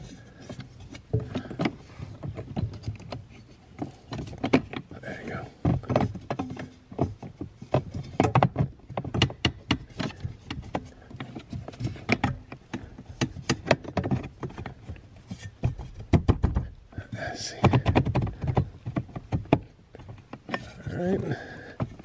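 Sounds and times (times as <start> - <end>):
clicks knocks and scrapes of metal part: 0.0 - 16.8, 17.4 - 22.0.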